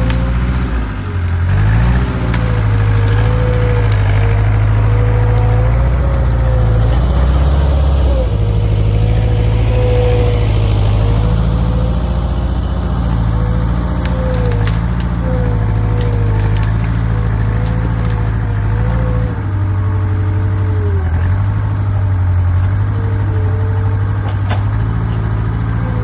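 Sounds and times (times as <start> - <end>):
skid steer engine running: 0.0 - 26.0
wavering whine: 0.0 - 26.0.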